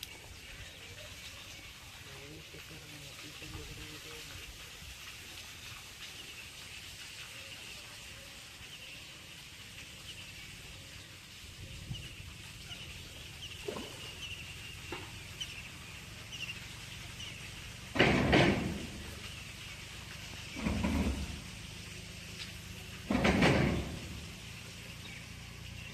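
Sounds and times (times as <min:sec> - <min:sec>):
fish splashing in water: 0:00.0 - 0:25.9
small birds chirping: 0:00.0 - 0:25.9.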